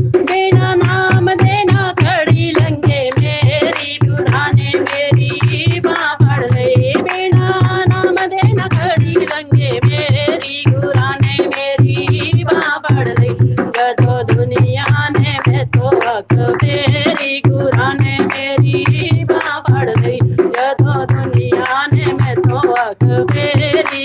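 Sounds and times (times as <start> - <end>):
steady drum beat: 0.0 - 24.0
person singing: 0.2 - 24.0.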